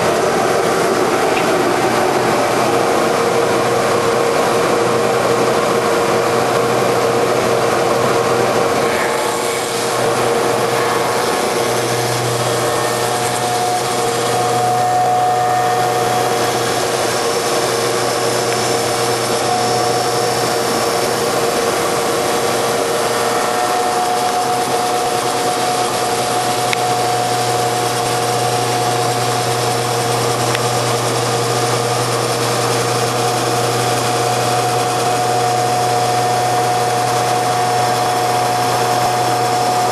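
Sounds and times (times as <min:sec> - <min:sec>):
wood lathe humming and whining: 0:00.0 - 0:39.9.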